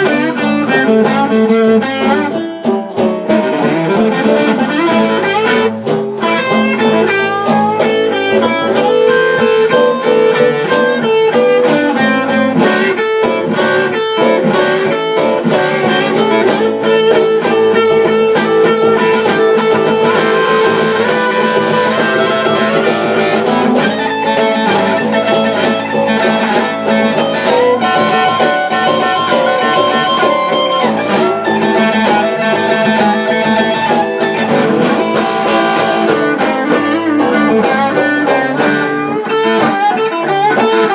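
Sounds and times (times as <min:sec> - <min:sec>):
blues guitar playing: 0:00.0 - 0:40.9.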